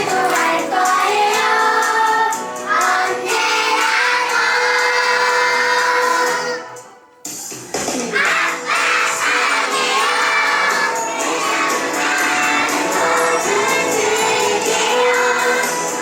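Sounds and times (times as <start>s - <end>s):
young children singing: 0.0s - 7.0s, 8.0s - 16.0s
song with jingle bells: 0.0s - 16.0s.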